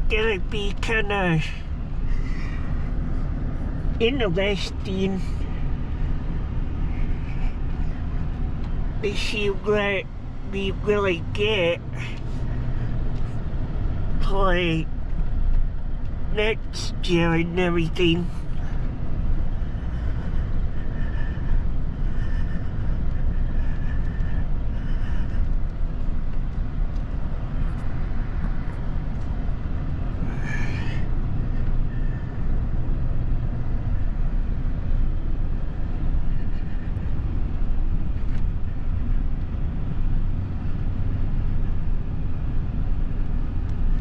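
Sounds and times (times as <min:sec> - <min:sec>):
vehicle engine rumble: 0:00.0 - 0:44.0.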